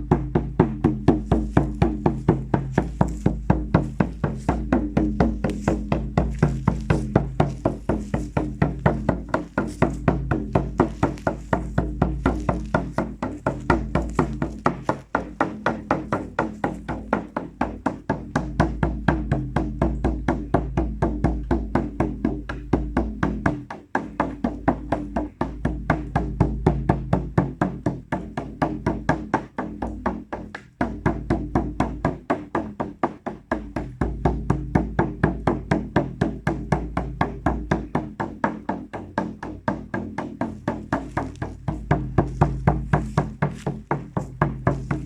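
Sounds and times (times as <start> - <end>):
fast drum beat: 0.0 - 45.0.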